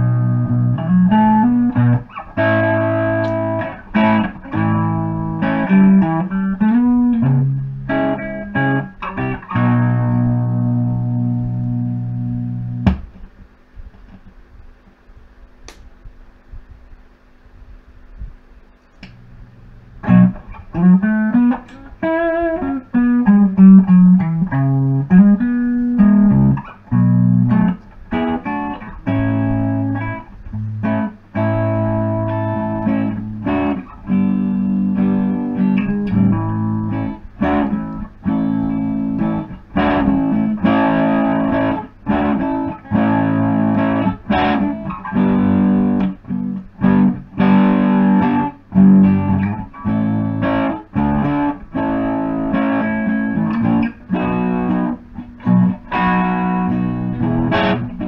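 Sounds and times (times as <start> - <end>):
electric guitar playing: 0.0 - 13.3, 19.0 - 58.0.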